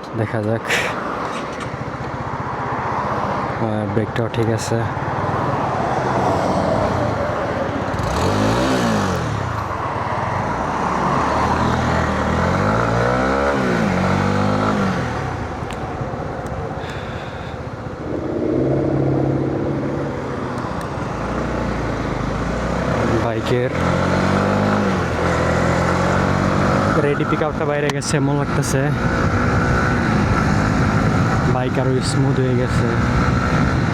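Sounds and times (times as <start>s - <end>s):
constant rushing noise: 0.0s - 33.9s
motorcycle engine revving: 4.9s - 33.9s.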